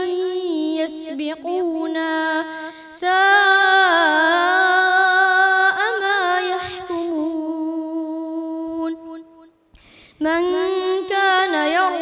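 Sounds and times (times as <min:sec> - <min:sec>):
boy reciting melodically: 0:00.0 - 0:09.4, 0:10.2 - 0:12.0.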